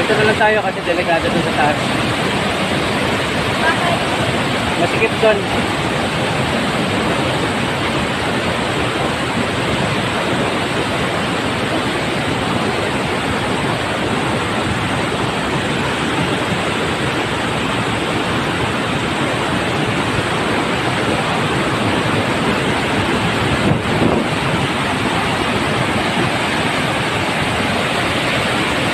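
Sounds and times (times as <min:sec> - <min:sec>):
floodwater rushing over dam: 0:00.0 - 0:28.9.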